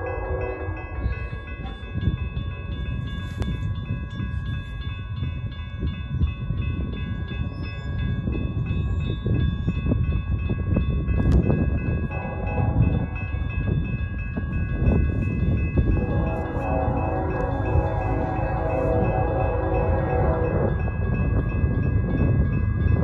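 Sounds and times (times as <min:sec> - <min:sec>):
railroad crossing bell ringing: 0:00.0 - 0:23.0
wind rumbling on microphone: 0:00.0 - 0:23.0.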